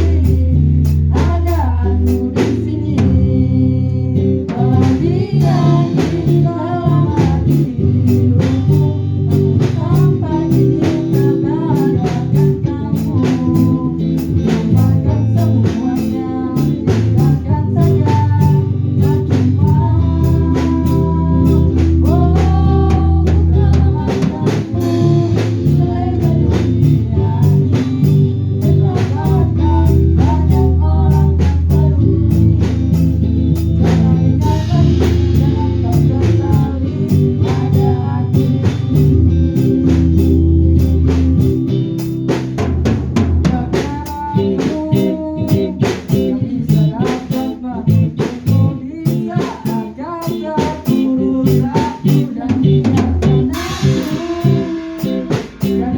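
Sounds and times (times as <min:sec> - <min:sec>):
bass and guitar: 0:00.0 - 0:55.9
drum kit: 0:00.0 - 0:55.9.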